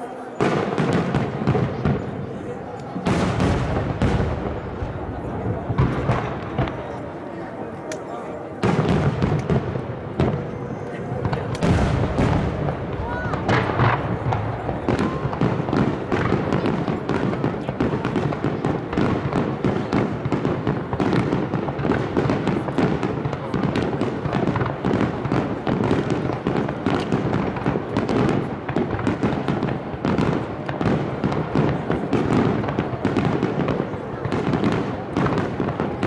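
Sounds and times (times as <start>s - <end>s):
aerial fireworks bursting: 0.0s - 7.2s, 8.6s - 36.0s.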